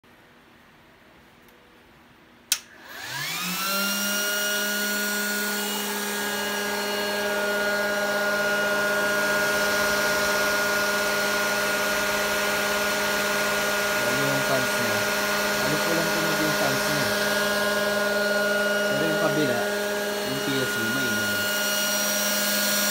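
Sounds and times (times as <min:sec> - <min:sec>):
cooling fans whirring: 0:00.1 - 0:22.9.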